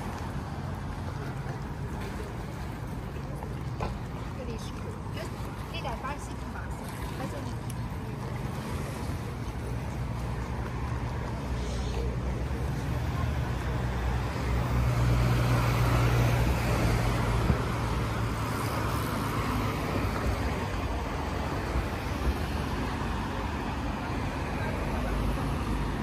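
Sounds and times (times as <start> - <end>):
low engine hum: 0.0 - 26.0
traffic noise: 0.0 - 26.0.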